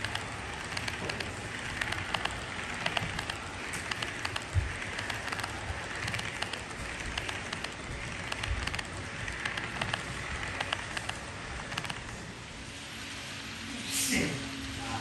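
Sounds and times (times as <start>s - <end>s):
model train wheels on rail: 0.0s - 13.6s.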